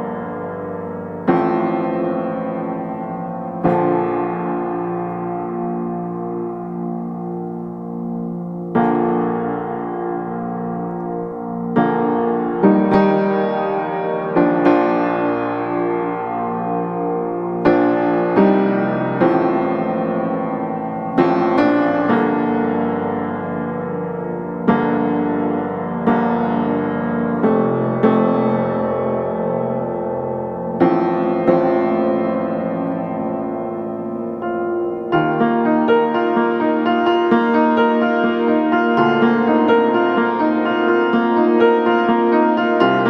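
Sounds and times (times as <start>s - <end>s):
slow piano chords: 0.0s - 43.0s.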